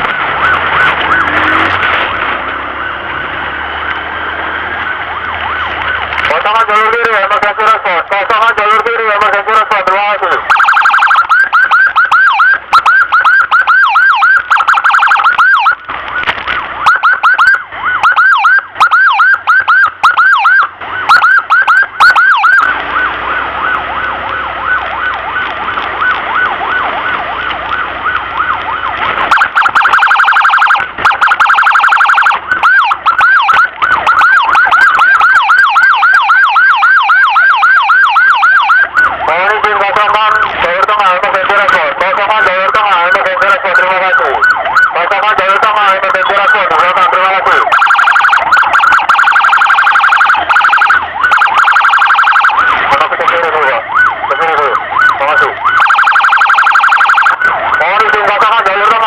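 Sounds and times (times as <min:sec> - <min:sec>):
electronic siren yelping: 0:00.0 - 0:01.9, 0:04.2 - 0:59.0.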